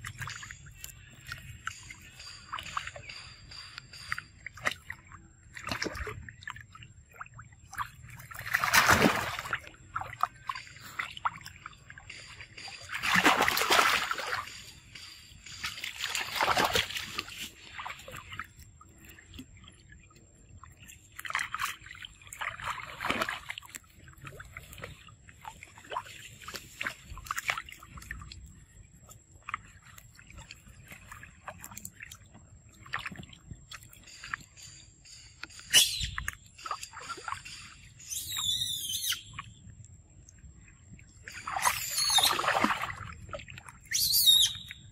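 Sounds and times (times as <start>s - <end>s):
water splashing: 0.0s - 38.2s, 39.1s - 44.9s
water dripping: 0.0s - 44.9s.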